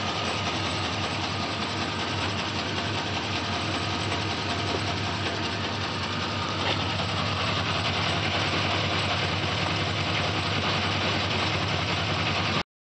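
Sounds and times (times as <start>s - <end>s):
engine ticking: 0.0s - 12.6s
truck engine idling: 0.0s - 12.6s.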